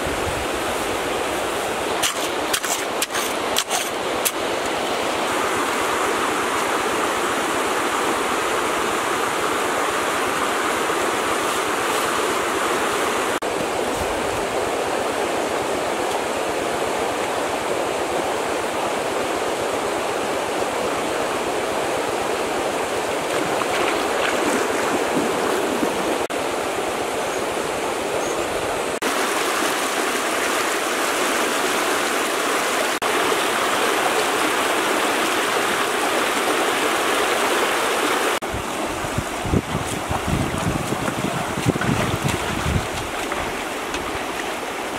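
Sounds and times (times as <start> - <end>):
stream water running: 0.0 - 44.9.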